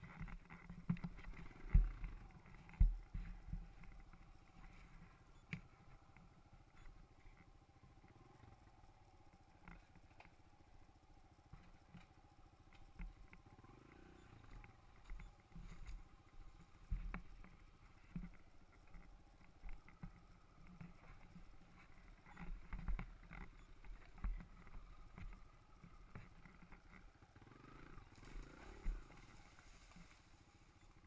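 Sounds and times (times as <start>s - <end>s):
dirt bike engine running: 0.0s - 31.0s.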